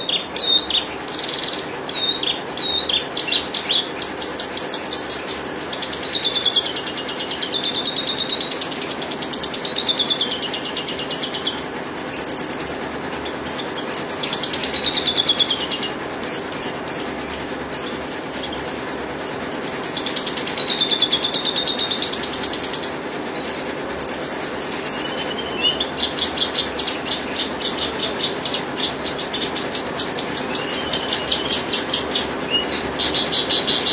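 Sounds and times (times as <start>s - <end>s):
bird singing trills: 0.0s - 33.9s.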